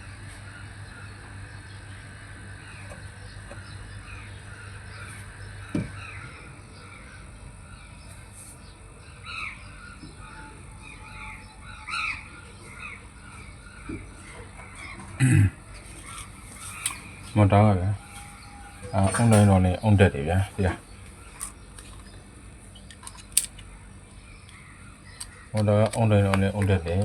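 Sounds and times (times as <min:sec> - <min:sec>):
birds chirping: 0:00.0 - 0:27.0
low steady hum: 0:00.0 - 0:27.0.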